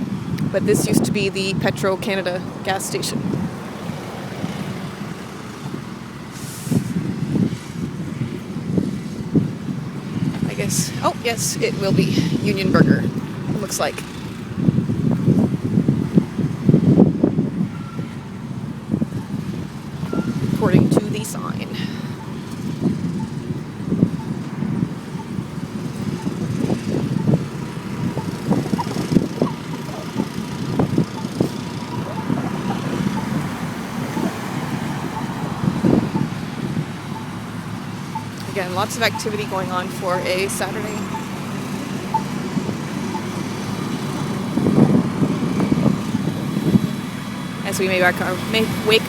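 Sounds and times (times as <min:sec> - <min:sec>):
cars passing on street: 0:00.0 - 0:49.0.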